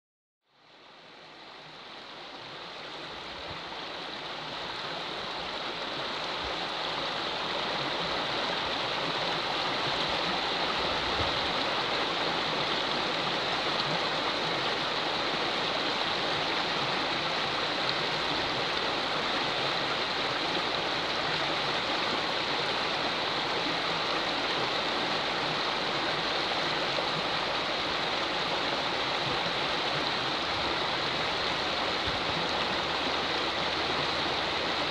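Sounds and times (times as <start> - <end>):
water rushing over weir: 1.7 - 34.9.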